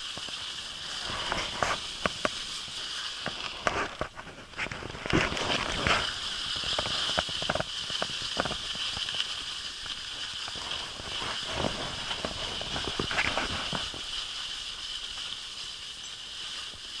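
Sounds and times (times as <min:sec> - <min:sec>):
skis hissing over snow: 0:00.0 - 0:17.0
steps crunching in snow: 0:00.0 - 0:17.0.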